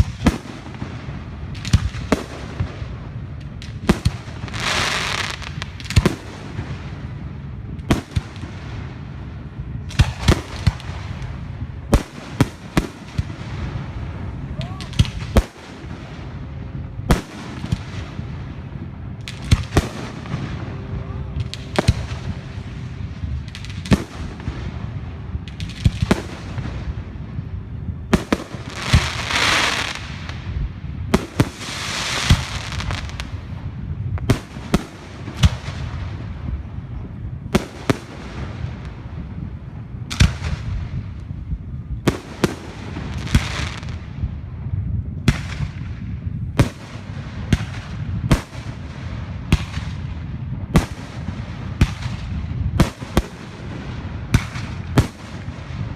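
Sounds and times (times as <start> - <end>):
fireworks bangs: 0.0 - 55.9
fireworks crackling: 0.0 - 55.9.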